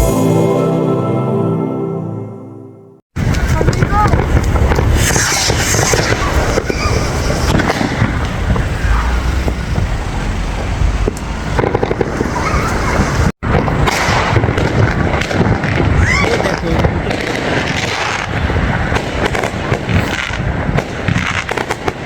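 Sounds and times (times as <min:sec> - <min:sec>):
fireworks cracks and bangs: 0:03.2 - 0:22.0
noisy street: 0:03.2 - 0:22.0.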